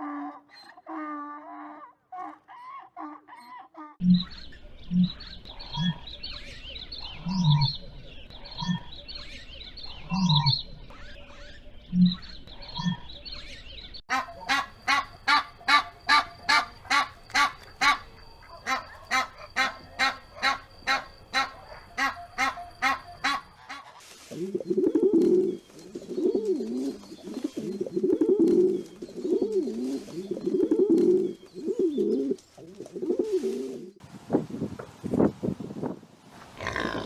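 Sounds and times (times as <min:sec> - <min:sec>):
small birds chirping: 0:03.4 - 0:34.0.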